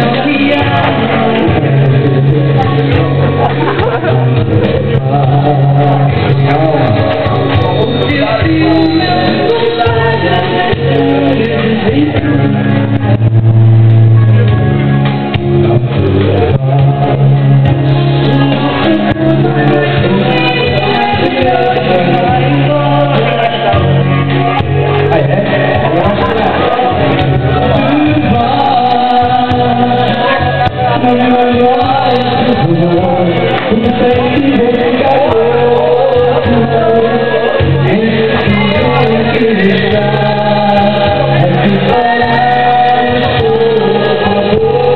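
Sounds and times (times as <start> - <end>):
instrumental accompaniment: 0.0 - 44.9
loud backing music with bass: 0.0 - 44.9
person singing: 0.0 - 44.9.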